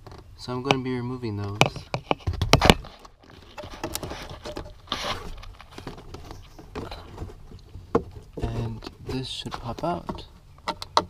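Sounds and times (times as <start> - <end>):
clicks and scraping: 0.0 - 11.0.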